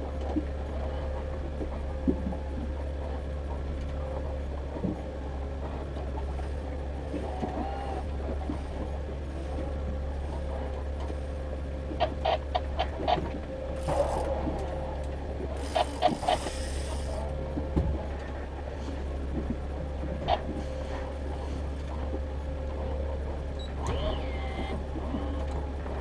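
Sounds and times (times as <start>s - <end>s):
boat motor droning: 0.0s - 26.0s
steady hum: 0.0s - 26.0s.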